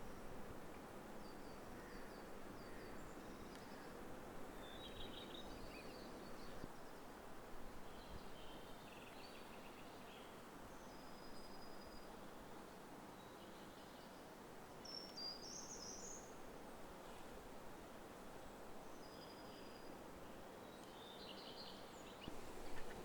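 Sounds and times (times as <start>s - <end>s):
songbirds chirping: 0.0s - 17.3s, 18.6s - 23.0s.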